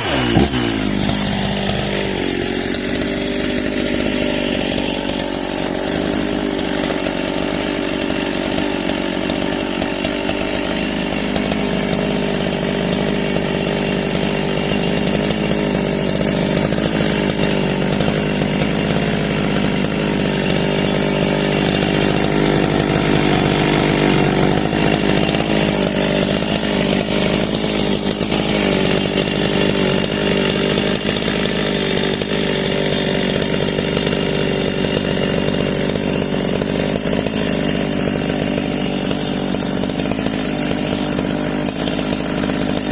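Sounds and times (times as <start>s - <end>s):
chainsaw cutting: 0.0s - 42.9s.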